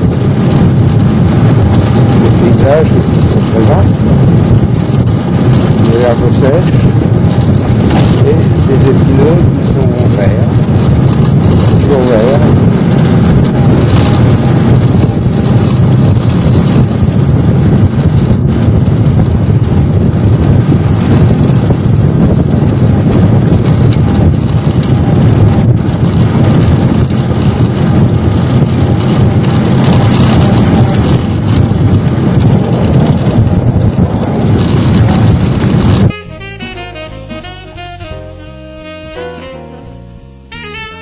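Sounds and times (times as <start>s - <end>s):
car engine running: 0.0s - 40.6s
road noise: 0.0s - 41.0s.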